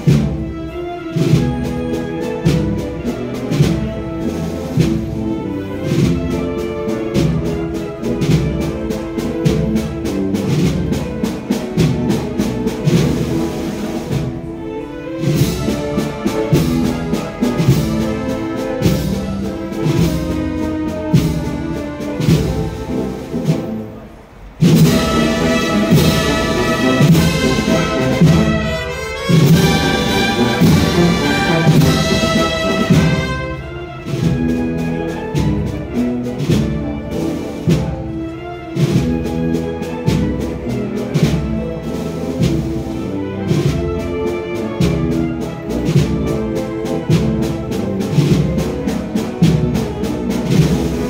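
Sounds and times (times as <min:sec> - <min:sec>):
steady drum beat: 0:00.0 - 0:23.9, 0:24.6 - 0:51.0
brass and woodwinds chords: 0:00.0 - 0:51.0.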